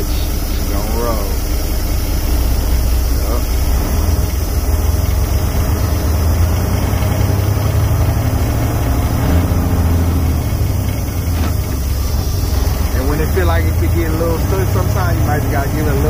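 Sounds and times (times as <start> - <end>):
diesel truck engine: 0.0 - 16.0.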